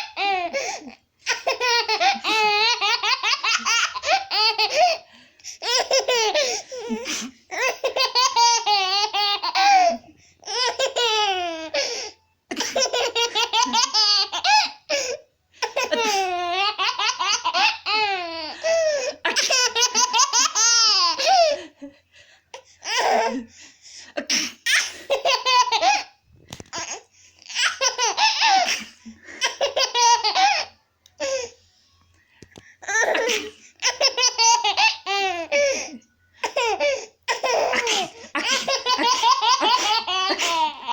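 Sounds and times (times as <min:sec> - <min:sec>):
baby laughing: 0:00.0 - 0:05.0, 0:05.6 - 0:11.8, 0:12.5 - 0:21.6, 0:26.7 - 0:31.4, 0:32.9 - 0:40.9.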